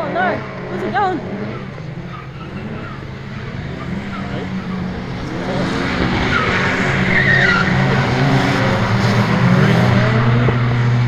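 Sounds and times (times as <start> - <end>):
car engine revving high: 0.0 - 11.0
tyres squealing: 0.4 - 10.4.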